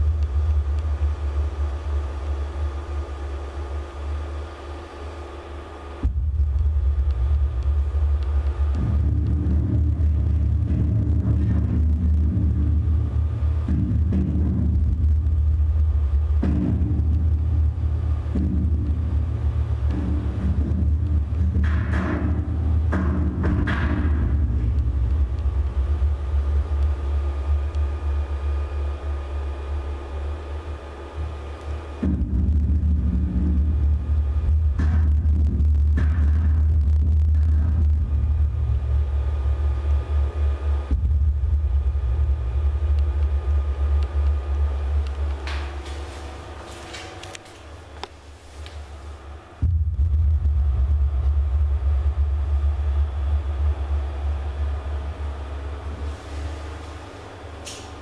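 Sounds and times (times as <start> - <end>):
deep wavering rumble: 0.0 - 5.2, 5.8 - 47.9, 48.5 - 58.0
steady low drone: 0.0 - 58.0.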